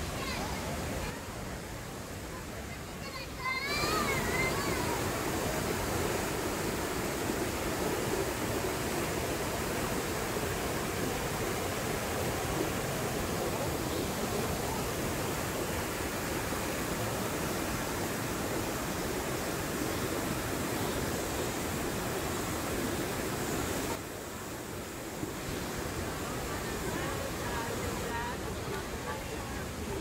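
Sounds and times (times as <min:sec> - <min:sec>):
water rushing over rocks: 0:00.0 - 0:30.0.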